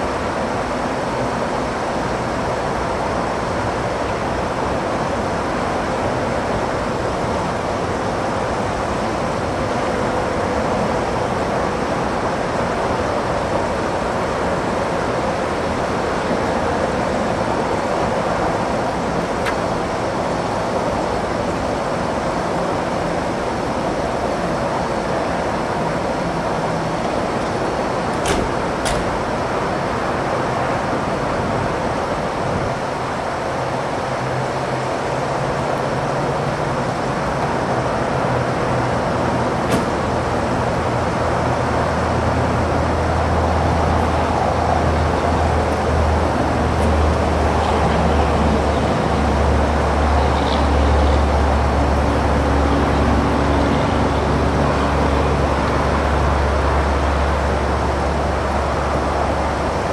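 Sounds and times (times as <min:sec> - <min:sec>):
low engine-like hum: 0:00.0 - 0:59.9.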